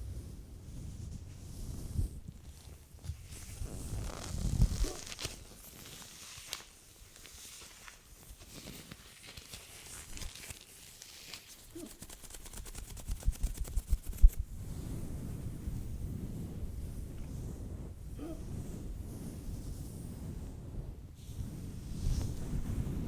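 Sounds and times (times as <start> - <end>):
soft rustles: 0.0 - 23.0.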